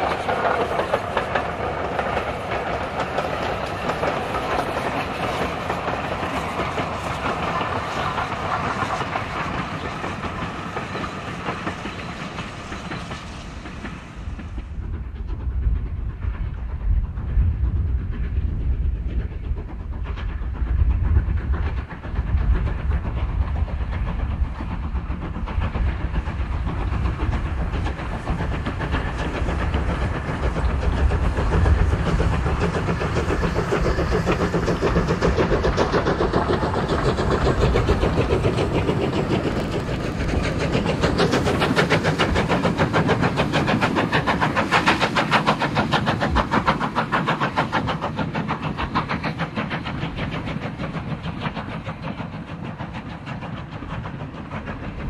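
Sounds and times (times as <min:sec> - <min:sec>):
coaches clattering on rails: 0:00.0 - 0:55.0
steam locomotive exhaust beating: 0:00.0 - 0:55.0.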